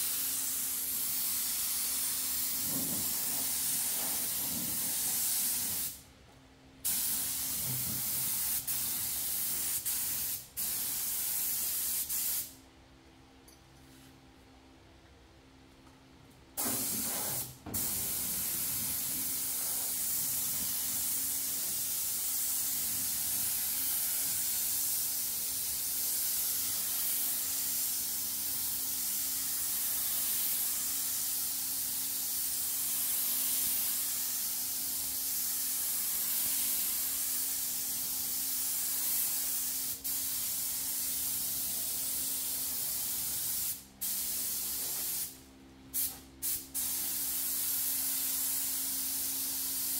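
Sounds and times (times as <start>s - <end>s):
spray gun hissing: 0.0s - 6.0s, 6.8s - 12.6s, 16.6s - 49.9s.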